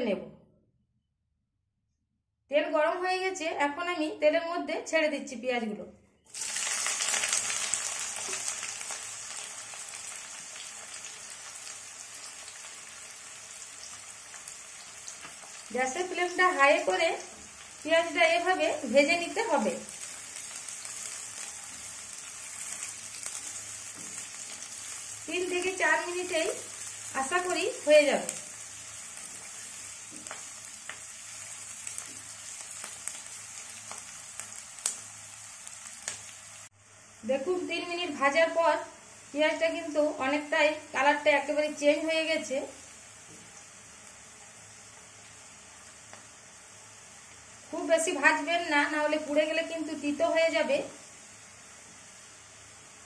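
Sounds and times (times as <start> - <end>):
onions sizzling in hot oil: 6.3 - 53.0.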